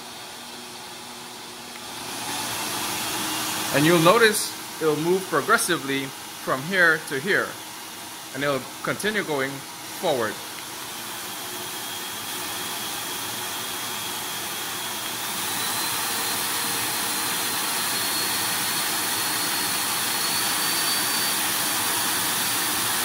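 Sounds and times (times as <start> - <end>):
dog dryer blower whine: 0.0 - 23.0.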